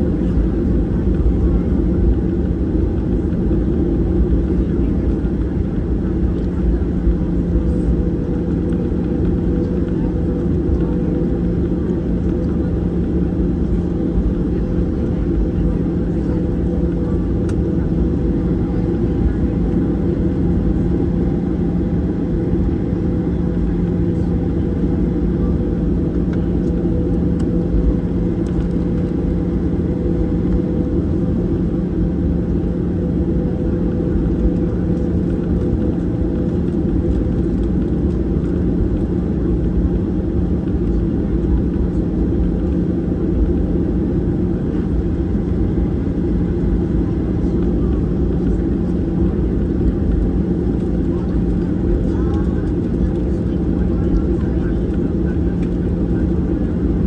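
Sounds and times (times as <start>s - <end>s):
constant hum: 0.0s - 57.0s
jet engine and airflow rumble: 0.0s - 57.0s.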